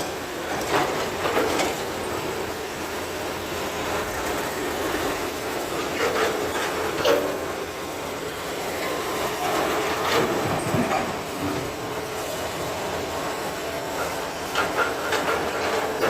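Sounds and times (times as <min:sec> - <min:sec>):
excavator rumbling: 0:00.0 - 0:16.0.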